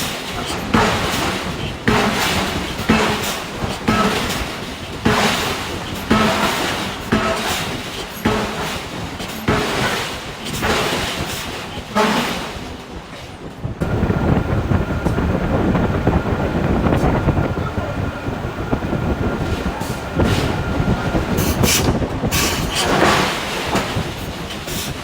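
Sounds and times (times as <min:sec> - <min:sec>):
heavy machinery rumbling and clattering: 0:00.0 - 0:25.0.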